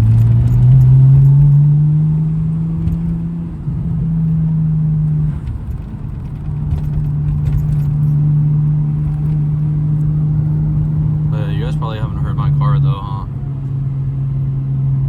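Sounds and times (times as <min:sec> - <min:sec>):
car engine drone: 0:00.0 - 0:15.0.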